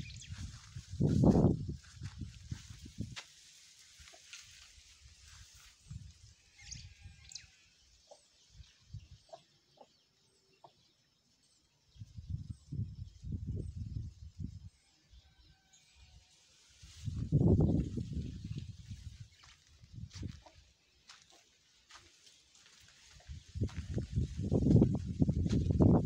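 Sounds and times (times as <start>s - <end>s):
small birds chirping: 0.0s - 3.1s, 3.7s - 15.4s, 16.8s - 26.0s.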